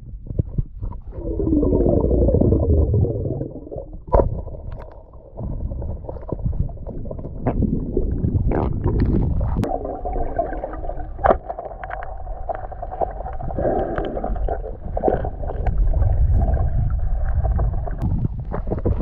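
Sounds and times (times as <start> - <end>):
underwater rumble of water: 0.0 - 19.0.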